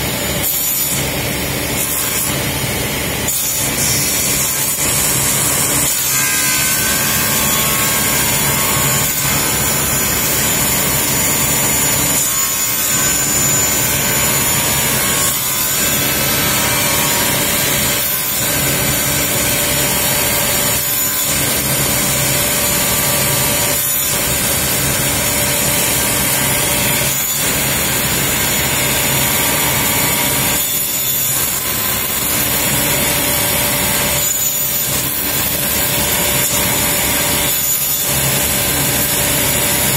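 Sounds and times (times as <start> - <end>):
panel saw cutting plywood: 0.4 - 39.9.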